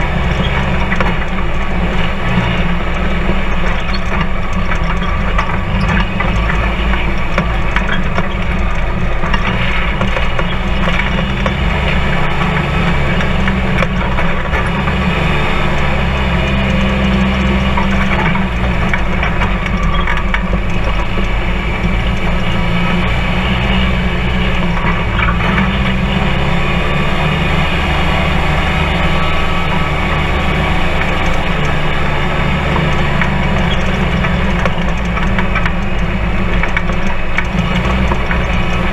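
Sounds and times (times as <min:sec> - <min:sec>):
chassis knocks and rattles: 0:00.0 - 0:38.9
vehicle engine droning: 0:00.0 - 0:38.9.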